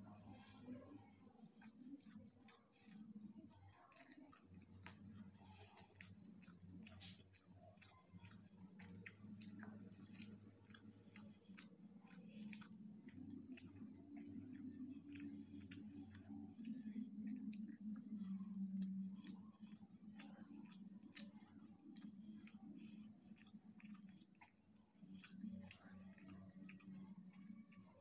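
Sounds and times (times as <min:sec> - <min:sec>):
chewing: 0:00.0 - 0:28.0
fingers squeezing rice: 0:00.0 - 0:28.0
low hum: 0:00.0 - 0:28.0.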